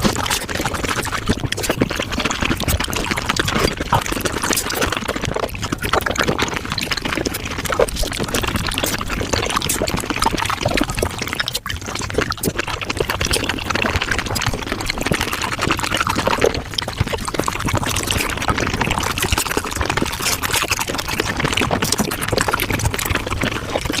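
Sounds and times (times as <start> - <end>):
oysters slurped and chewed: 0.0 - 24.0.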